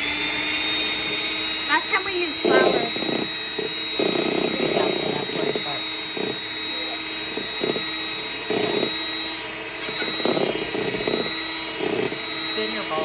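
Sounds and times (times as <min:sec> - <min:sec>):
electric hand mixer whining: 0:00.0 - 0:13.0.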